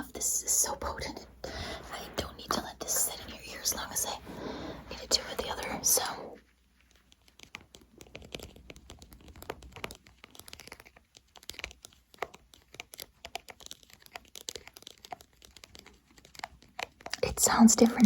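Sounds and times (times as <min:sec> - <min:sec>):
crackling and scratching on microphone: 0:00.0 - 0:18.0.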